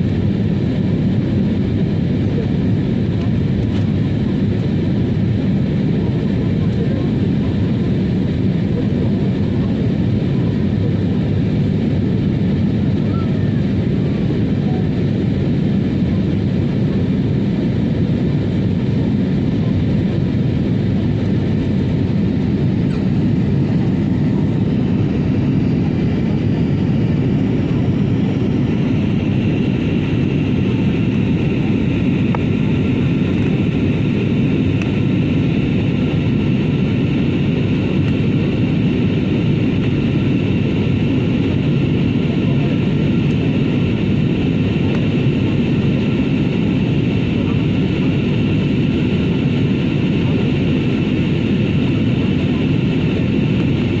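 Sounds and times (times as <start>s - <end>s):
airliner engines and airflow: 0.0s - 54.0s.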